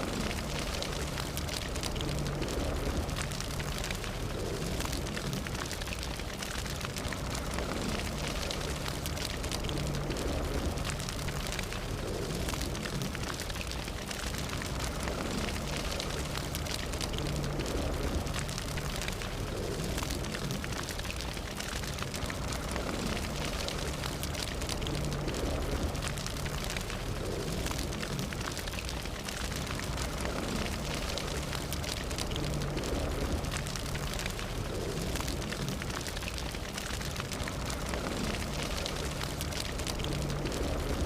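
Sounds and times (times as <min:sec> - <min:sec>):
fire burning: 0:00.0 - 0:41.0
fire crackling and popping: 0:00.0 - 0:41.0.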